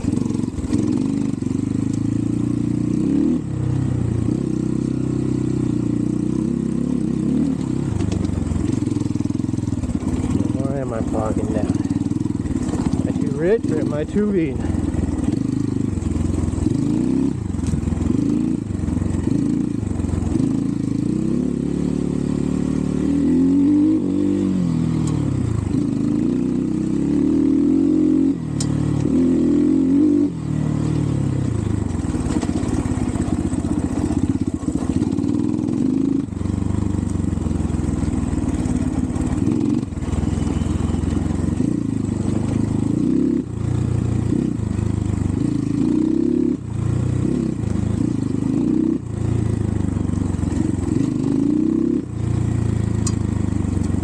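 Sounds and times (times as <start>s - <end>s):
dirt bike engine running under load: 0.0s - 54.0s.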